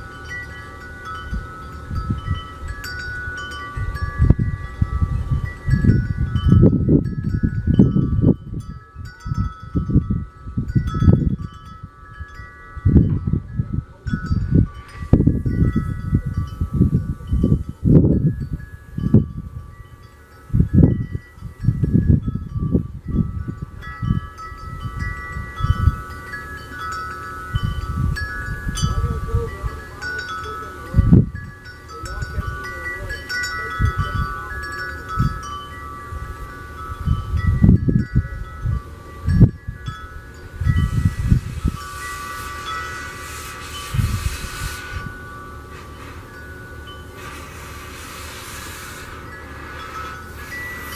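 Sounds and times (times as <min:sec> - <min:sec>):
wind chimes ringing: 0:00.0 - 0:50.9.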